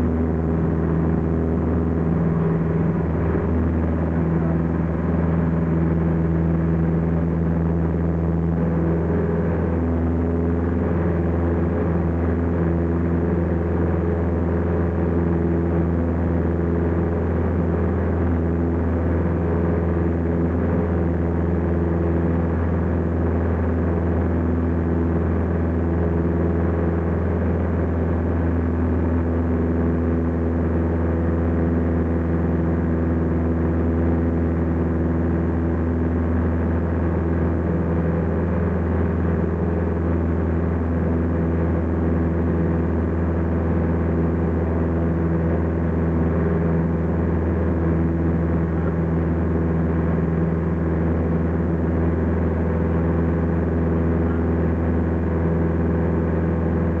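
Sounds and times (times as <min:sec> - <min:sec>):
propeller aircraft engine drone: 0:00.0 - 0:57.0.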